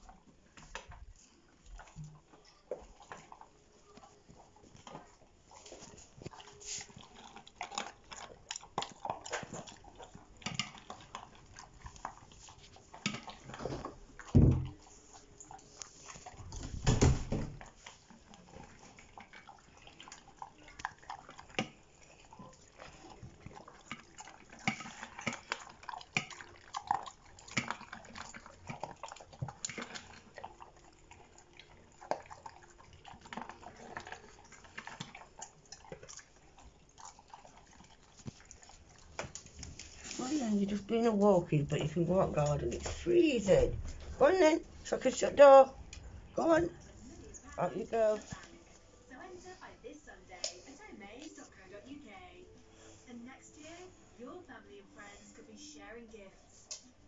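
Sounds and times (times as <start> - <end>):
dogs crunching kibble: 0.0 - 56.0.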